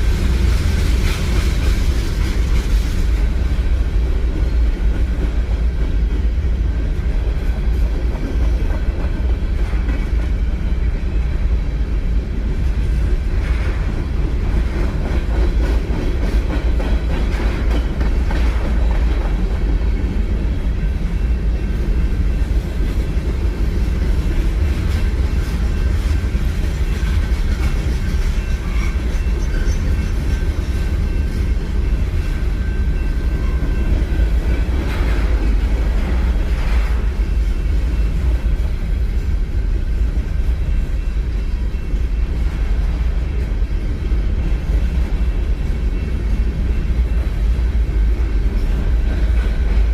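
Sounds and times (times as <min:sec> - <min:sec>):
train rumbling past: 0:00.0 - 0:49.9.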